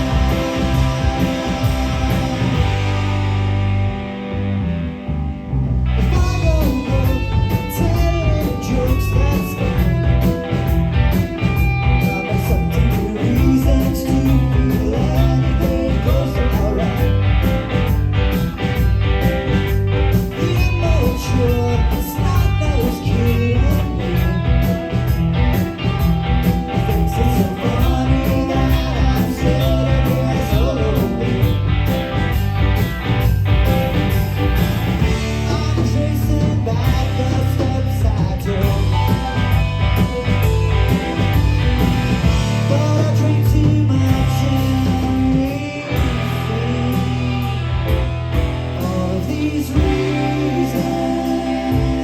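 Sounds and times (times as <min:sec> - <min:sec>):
rock band playing live: 0:00.0 - 0:52.0.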